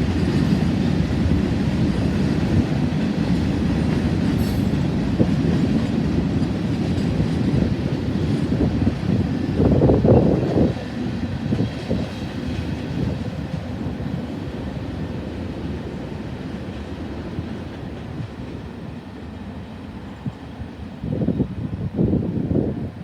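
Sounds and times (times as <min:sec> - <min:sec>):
freight train rumbling on rails: 0:00.0 - 0:23.0.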